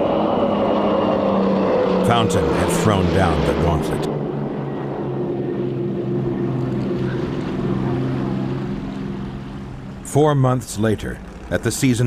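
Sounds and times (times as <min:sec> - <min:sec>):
powerboat engines running: 0:00.0 - 0:12.0.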